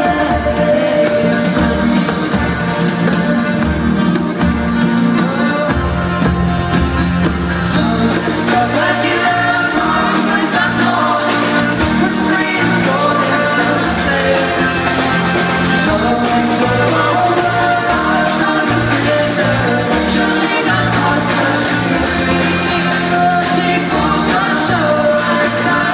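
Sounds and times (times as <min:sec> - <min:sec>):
person singing: 0:00.0 - 0:06.4, 0:07.7 - 0:25.9
pop-rock band playing: 0:00.0 - 0:25.9.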